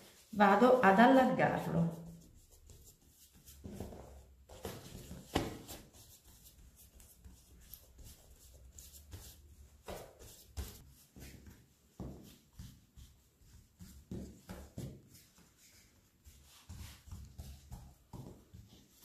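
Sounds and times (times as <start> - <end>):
hands patting dough: 0.0 - 19.0
rubbing dough: 0.0 - 19.0.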